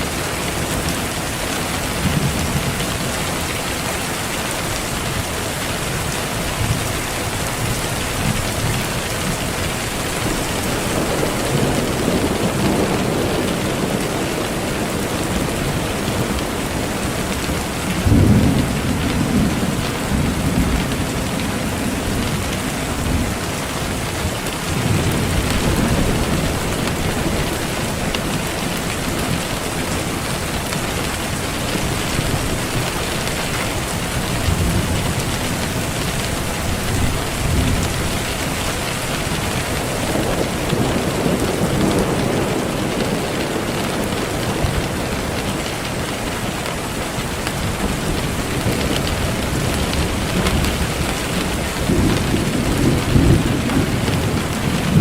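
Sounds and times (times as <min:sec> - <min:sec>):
heavy rain: 0:00.0 - 0:55.0
thunder rumbles: 0:00.0 - 0:55.0.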